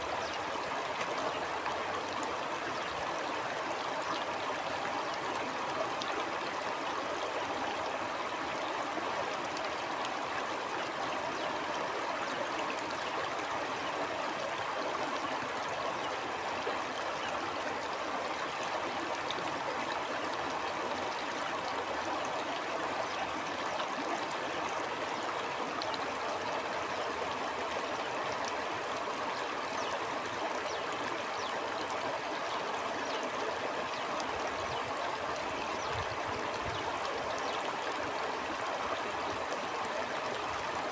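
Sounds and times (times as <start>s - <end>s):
stream burbling over rocks: 0.0s - 40.9s.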